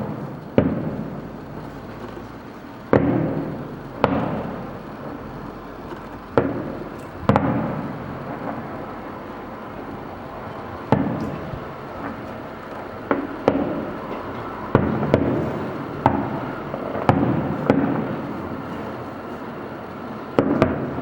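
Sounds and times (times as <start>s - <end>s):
fireworks bangs: 0.0s - 21.0s
steady background noise: 0.0s - 21.0s.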